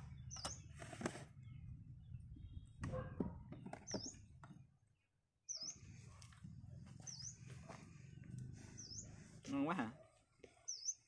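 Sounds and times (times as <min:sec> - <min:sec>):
bird chirping: 0:00.0 - 0:06.2, 0:06.9 - 0:09.6, 0:10.5 - 0:11.0.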